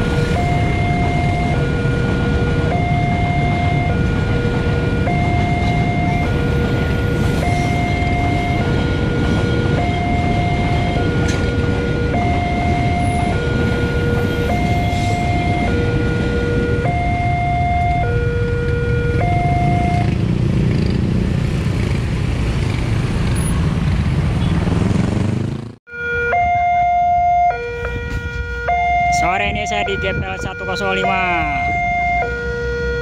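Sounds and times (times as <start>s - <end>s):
level crossing alarm two-tone: 0.1s - 20.1s, 25.9s - 33.0s.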